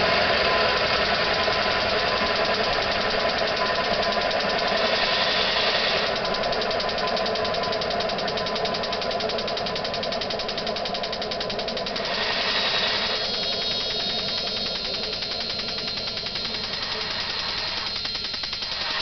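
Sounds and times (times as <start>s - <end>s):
high-pitched whine: 0.0s - 19.0s
turbojet engine clattering: 0.0s - 19.0s.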